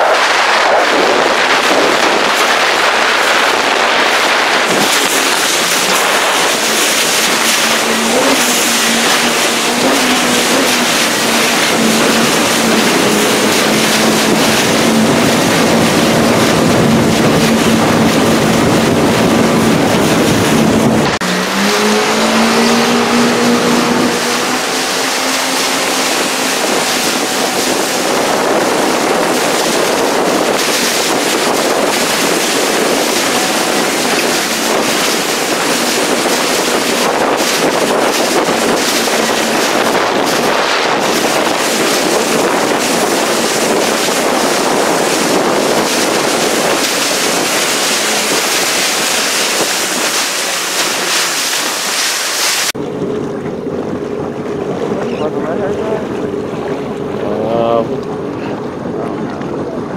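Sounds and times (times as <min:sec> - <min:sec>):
jet ski engine running: 0:00.0 - 0:59.9
water noise: 0:00.0 - 0:59.9
wind noise: 0:00.0 - 0:59.9.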